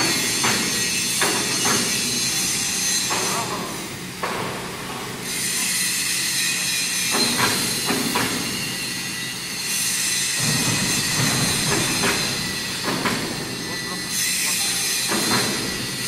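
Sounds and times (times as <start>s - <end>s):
high-pitched metallic machine whine: 0.0s - 4.1s, 5.1s - 16.0s.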